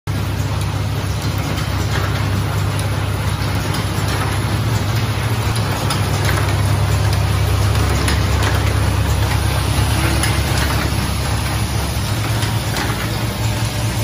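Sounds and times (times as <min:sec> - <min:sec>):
dense even rattle of parts: 0:00.1 - 0:14.0
vibratory feeders buzzing hum: 0:00.1 - 0:14.0.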